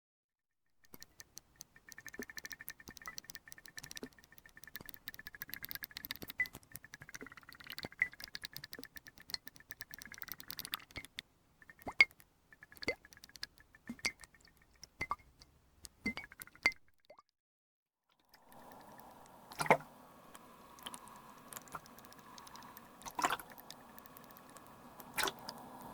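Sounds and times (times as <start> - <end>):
fine ticks and crackles: 0.8 - 16.8, 18.2 - 25.9
water drips: 0.8 - 17.3, 18.2 - 25.9.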